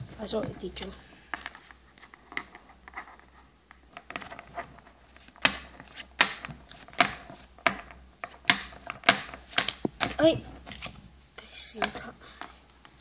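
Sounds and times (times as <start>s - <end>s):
cards rustling: 0.0s - 13.0s.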